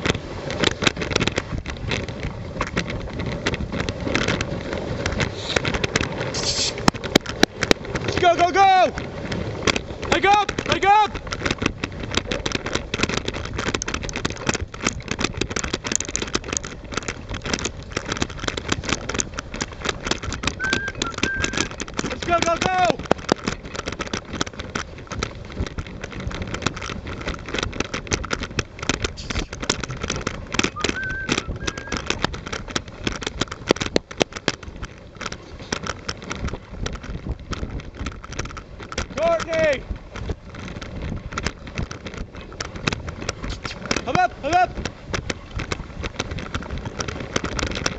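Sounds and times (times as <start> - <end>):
crackling and rattling: 0.0 - 47.9
rig rumbling on snow: 0.0 - 47.9
sled clicks and knocks: 0.0 - 47.9.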